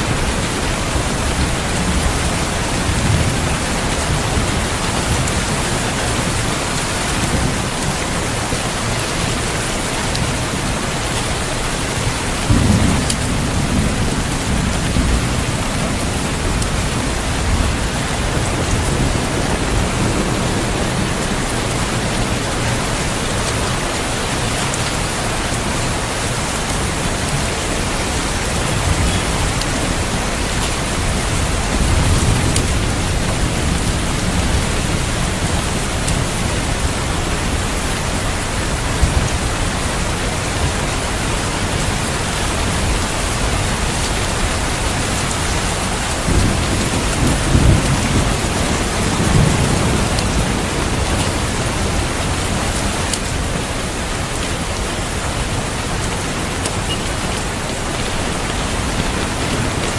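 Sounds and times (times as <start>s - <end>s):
thunder rumbling: 0.0s - 56.9s
heavy rain: 0.0s - 59.9s.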